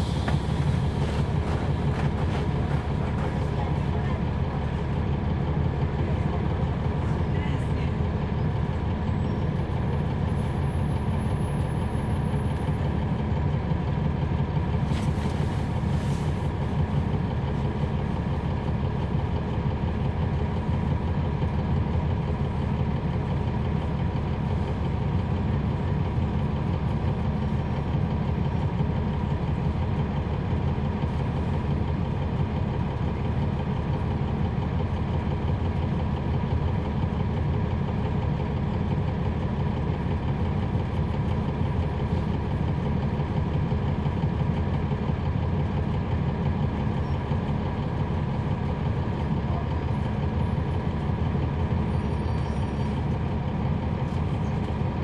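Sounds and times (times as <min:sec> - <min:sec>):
bus diesel engine idling: 0:00.0 - 0:55.0.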